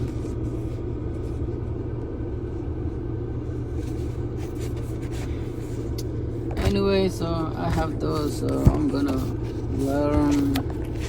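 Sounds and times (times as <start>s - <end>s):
car rumble: 0.0s - 11.0s.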